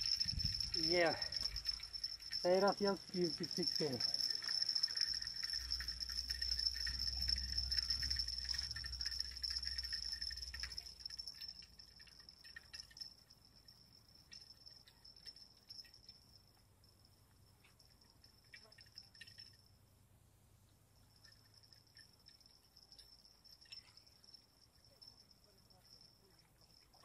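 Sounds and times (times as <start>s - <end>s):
faint irregular clicks: 0.0s - 19.8s, 21.0s - 27.0s
insects chirring: 0.0s - 19.8s, 21.1s - 27.0s.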